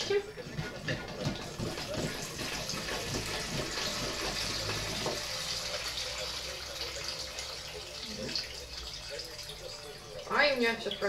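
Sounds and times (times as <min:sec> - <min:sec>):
tap water running into pot: 0:00.0 - 0:11.0.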